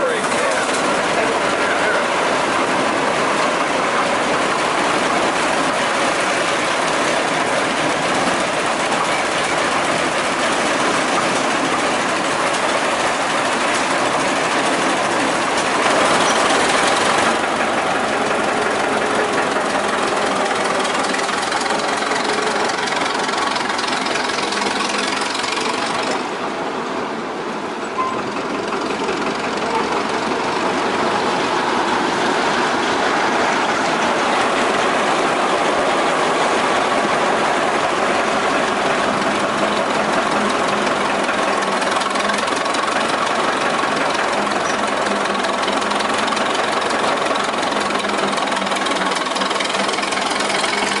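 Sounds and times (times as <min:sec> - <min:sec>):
gas engine running steadily: 0:00.0 - 0:51.0.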